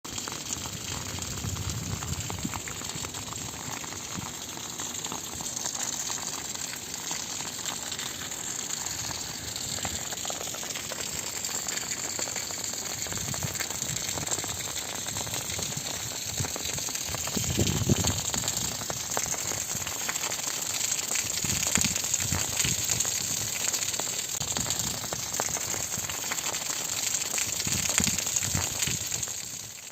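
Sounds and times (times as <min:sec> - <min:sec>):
heavy rain patter: 0:00.1 - 0:29.9.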